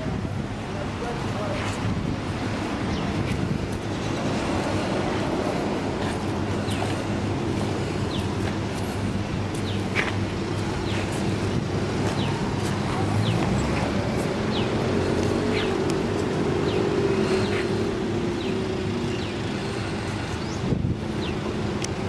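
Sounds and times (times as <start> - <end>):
city traffic hum and rumble: 0.0 - 22.0.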